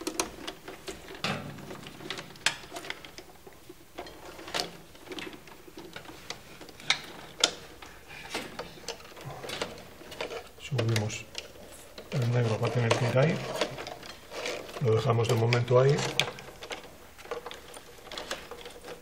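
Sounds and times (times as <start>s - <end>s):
light rustling of wires: 0.0s - 19.0s
wires clicking against breakers: 0.0s - 19.0s.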